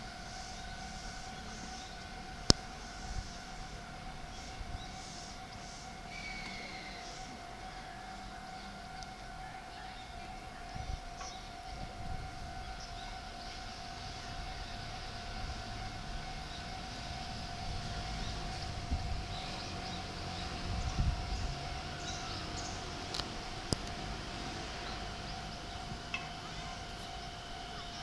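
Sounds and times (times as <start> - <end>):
level crossing warning tone: 0.0 - 28.0.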